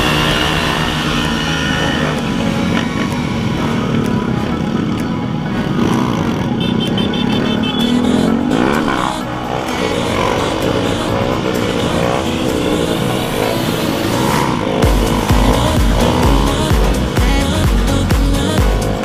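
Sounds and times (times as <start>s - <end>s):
motorcycle engine revving: 0.0s - 19.0s
small motorcycle engines running: 0.0s - 19.0s.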